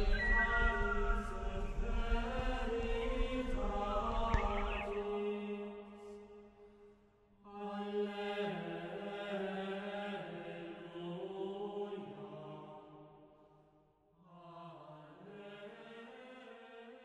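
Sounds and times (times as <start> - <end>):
choir singing: 0.0 - 6.4, 7.5 - 13.1, 14.2 - 17.0.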